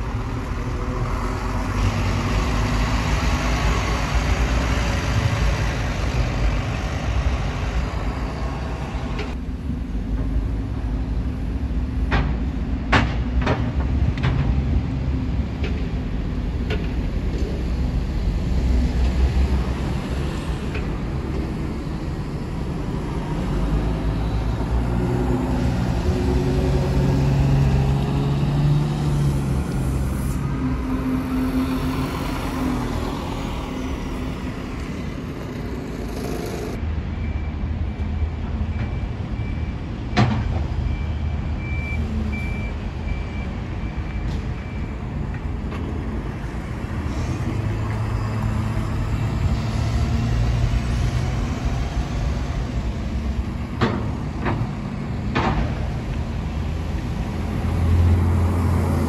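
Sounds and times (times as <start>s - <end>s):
bus engines rumbling: 0.0s - 59.0s.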